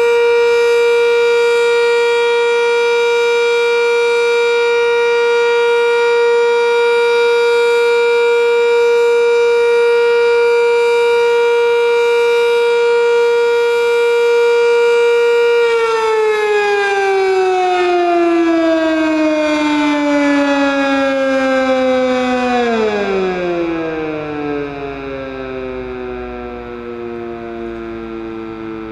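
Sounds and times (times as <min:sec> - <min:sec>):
warning siren winding down: 0:00.0 - 0:28.9.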